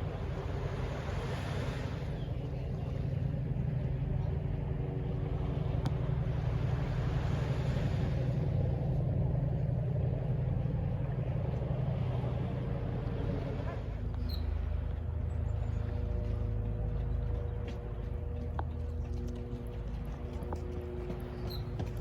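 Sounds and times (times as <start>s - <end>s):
distant city traffic rumble: 0.0s - 22.0s
vehicles passing: 0.0s - 22.0s.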